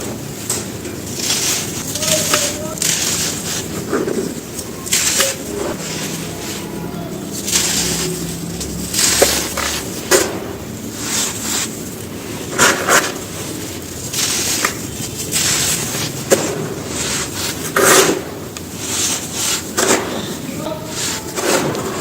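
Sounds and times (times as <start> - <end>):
sand-cement chunks crumbling: 0.0 - 22.0.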